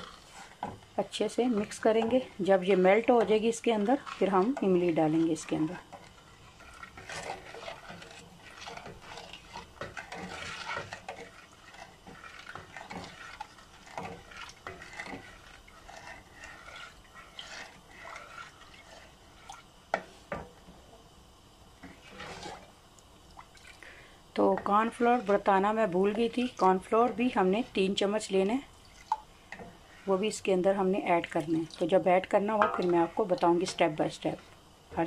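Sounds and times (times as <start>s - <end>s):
ladle scraping metal pot: 0.0s - 20.4s, 21.8s - 22.8s, 24.4s - 34.6s.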